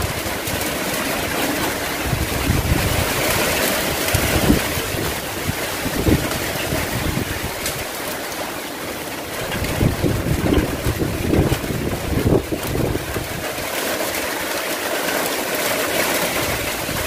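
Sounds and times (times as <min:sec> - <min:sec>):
wind buffeting microphone: 0:00.0 - 0:08.0, 0:09.3 - 0:14.6, 0:16.0 - 0:17.0
strong wind and heavy rain: 0:00.0 - 0:17.0.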